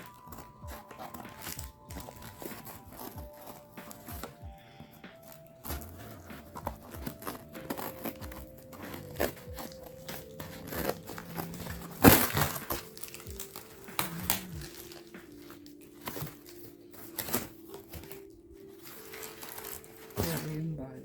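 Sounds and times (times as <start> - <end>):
faint background music: 0.0 - 21.0
wrapping crinkling and tearing: 0.0 - 21.0.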